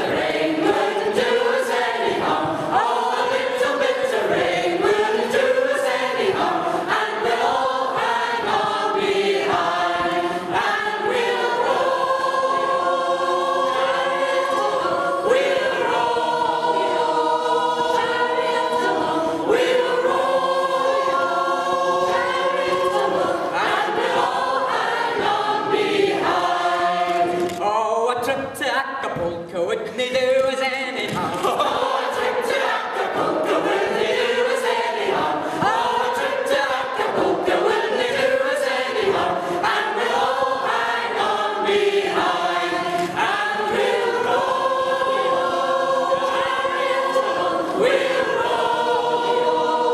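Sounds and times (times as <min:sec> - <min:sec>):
mixed choir singing in harmony: 0:00.0 - 0:27.8, 0:31.0 - 0:49.9.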